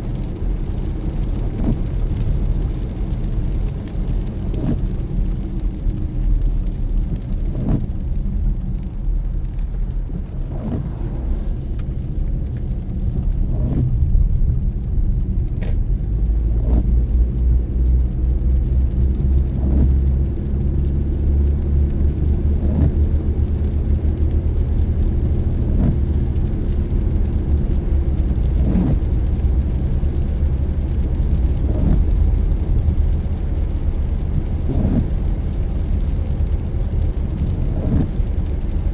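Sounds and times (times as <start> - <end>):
road and engine rumble: 0.0 - 38.9
windshield wiper sweep: 0.1 - 17.2, 18.6 - 38.9.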